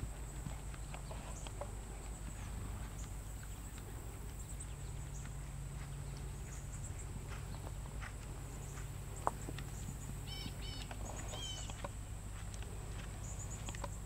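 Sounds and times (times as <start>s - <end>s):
muffled hoofbeats on sand: 0.0s - 14.0s
steady low rumble: 0.0s - 14.0s.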